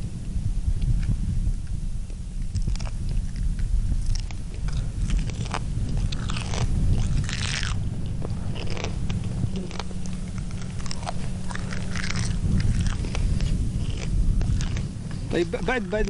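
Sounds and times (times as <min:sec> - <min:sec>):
wind rumble on microphone: 0:00.0 - 0:16.0
man chewing crunchy shell: 0:00.7 - 0:16.0.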